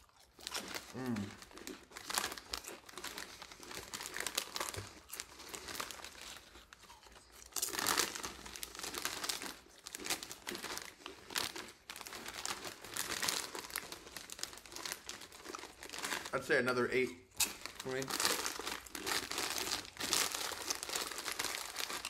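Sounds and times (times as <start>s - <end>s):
chip bag crinkling: 0.0s - 22.0s.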